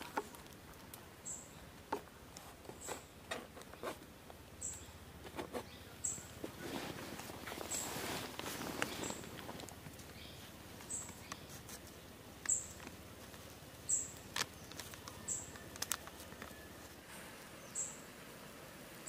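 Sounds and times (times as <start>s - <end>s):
wood fire crackling: 0.0s - 4.5s, 6.2s - 17.6s.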